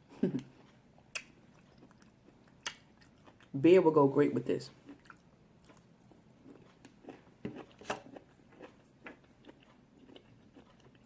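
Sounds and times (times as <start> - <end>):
person chewing food: 0.2 - 3.6, 4.8 - 11.0.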